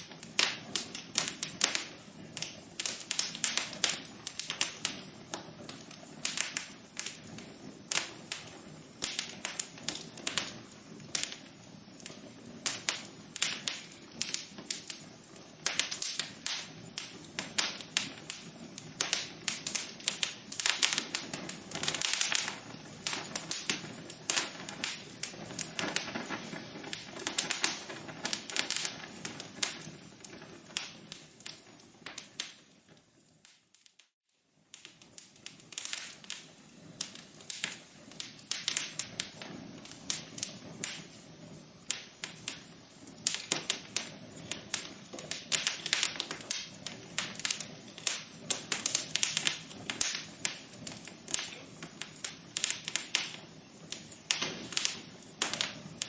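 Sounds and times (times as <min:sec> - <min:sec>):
hiss of burning: 0:00.0 - 0:56.0
wood fire crackling and popping: 0:00.0 - 0:56.0.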